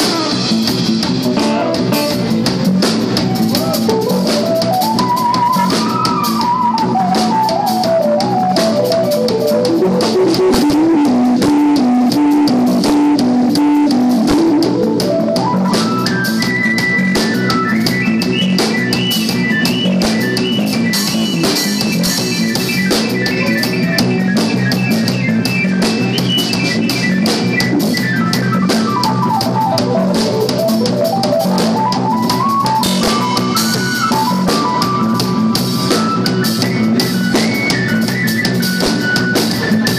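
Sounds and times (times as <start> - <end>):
drum kit played busily: 0.0 - 39.9
fast melodic runs: 0.0 - 39.9
jazz fusion music: 0.0 - 39.9
steady bass line: 0.0 - 39.9.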